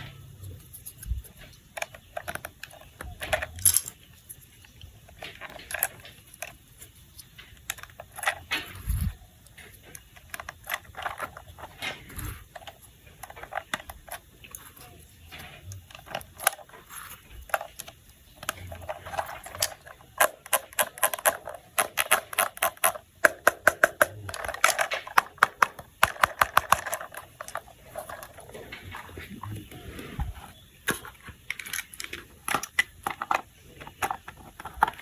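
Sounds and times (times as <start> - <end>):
plastic toy parts clicking: 0.0 - 29.6, 30.2 - 35.0.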